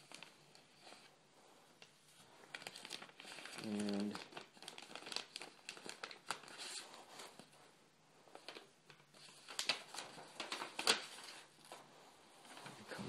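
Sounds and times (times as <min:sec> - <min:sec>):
plastic bag and paper rustling: 0:00.0 - 0:13.0.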